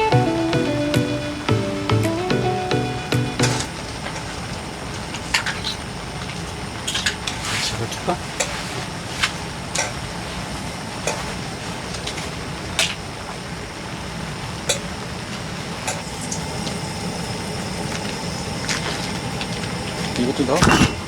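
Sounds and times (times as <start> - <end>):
food cooking in a pan: 1.8 - 21.0.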